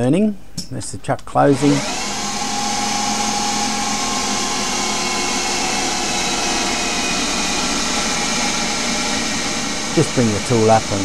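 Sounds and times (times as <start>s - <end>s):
lathe spindle whine: 1.5s - 11.0s.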